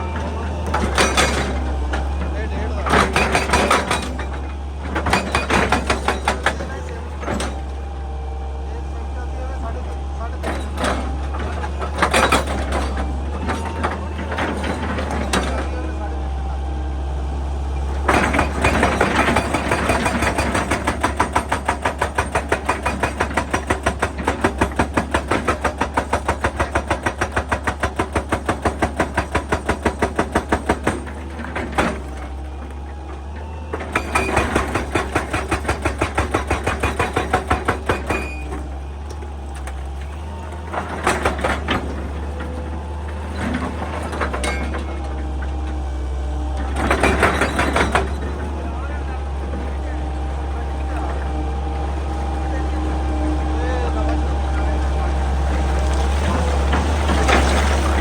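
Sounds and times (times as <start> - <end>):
hydraulic breaker hammering rock: 0.0 - 16.9, 17.8 - 58.0
diesel engine hum: 0.0 - 58.0.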